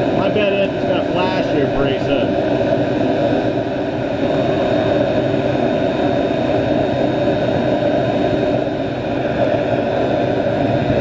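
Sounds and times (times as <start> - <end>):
blower fan rushing air: 0.0 - 11.0
faint high whine: 0.0 - 11.0.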